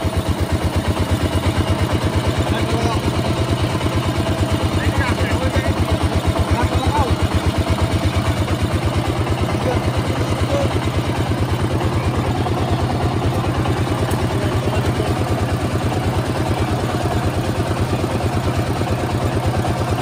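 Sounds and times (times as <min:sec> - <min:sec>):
juice crusher engine running: 0:00.0 - 0:20.0.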